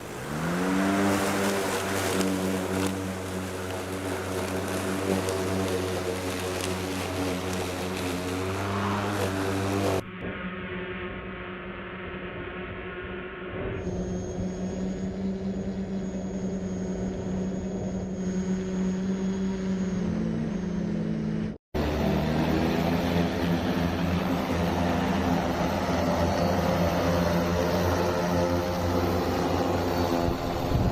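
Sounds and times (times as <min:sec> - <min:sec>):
drone propeller hum: 0:00.0 - 0:30.9
drone taking off: 0:00.0 - 0:30.9.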